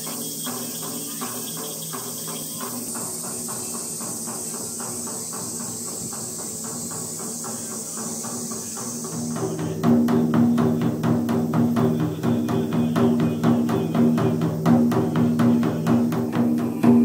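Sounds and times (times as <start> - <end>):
faint rapid pulsing: 0.0 - 17.0
insects singing: 0.0 - 17.0.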